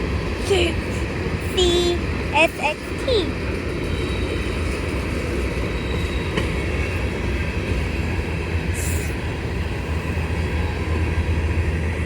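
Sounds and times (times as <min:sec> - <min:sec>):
freight train rolling by: 0:00.0 - 0:12.0.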